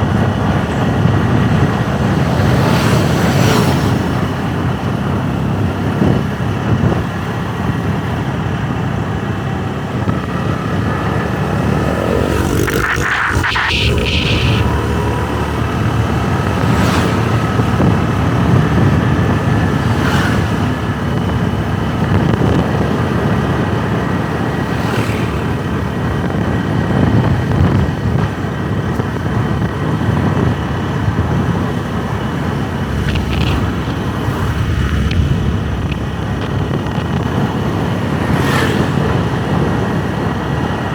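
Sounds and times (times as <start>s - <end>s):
motorbike riding: 0.0s - 40.9s
road and traffic noise: 0.0s - 40.9s.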